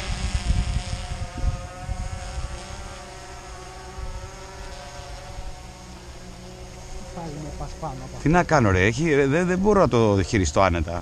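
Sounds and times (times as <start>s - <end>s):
drone propellers whining: 0.0s - 11.0s.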